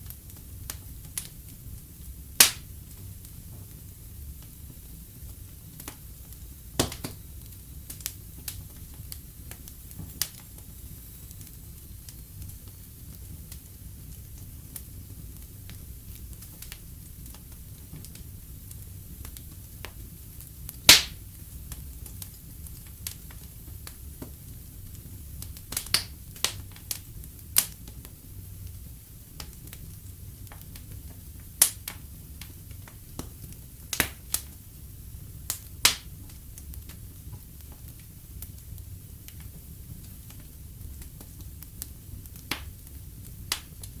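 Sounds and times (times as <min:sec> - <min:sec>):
fire pops and snaps: 0:00.0 - 0:44.0
low rumble of flames: 0:00.0 - 0:44.0.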